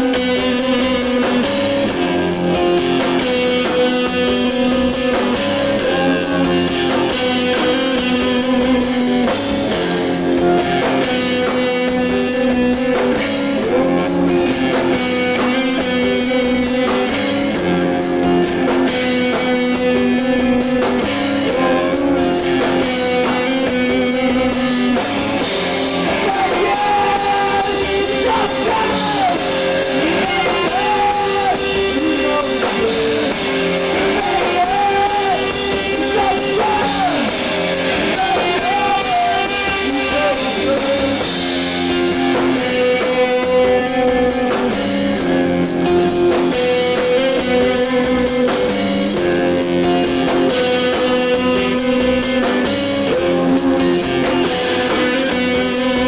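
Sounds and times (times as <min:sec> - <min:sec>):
drum kit: 0:00.0 - 0:56.0
electric guitars droning chords: 0:00.0 - 0:56.0.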